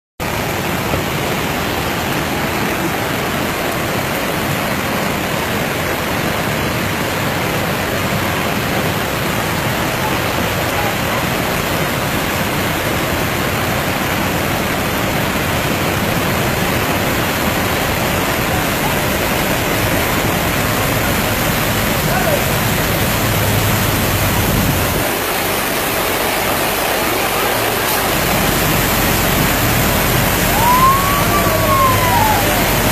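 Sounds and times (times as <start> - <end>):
flood torrent rushing: 0.2 - 32.9
heavy rain: 0.2 - 32.9.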